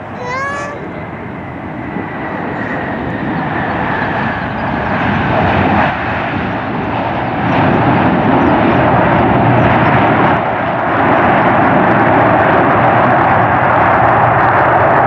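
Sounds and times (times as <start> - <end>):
jet engines rushing and rumbling: 0.0 - 15.0.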